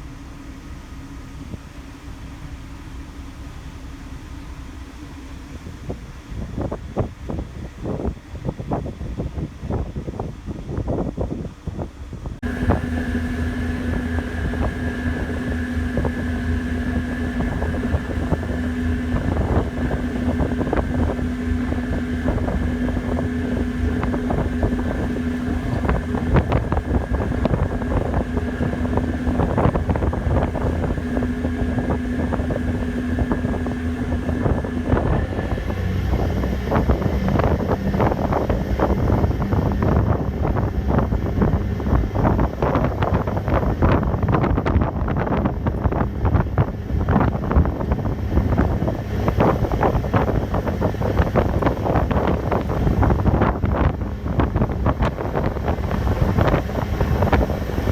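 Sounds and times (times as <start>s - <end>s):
ferry engines droning: 0.0s - 57.9s
wind buffeting microphone: 0.0s - 57.9s.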